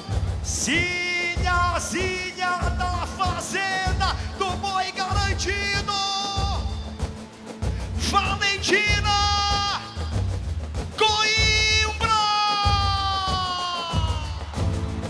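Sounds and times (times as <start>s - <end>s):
deep booming drum beats: 0.0s - 15.0s.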